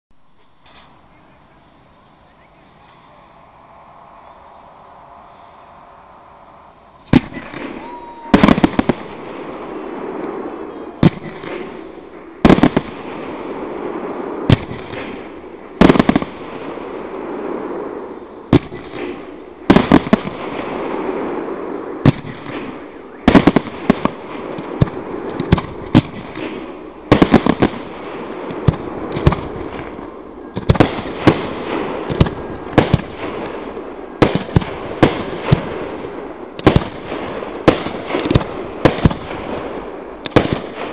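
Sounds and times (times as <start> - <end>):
crackle and hiss of burning fireworks: 0.2 - 40.9
firework shells bursting with bangs: 0.4 - 40.9.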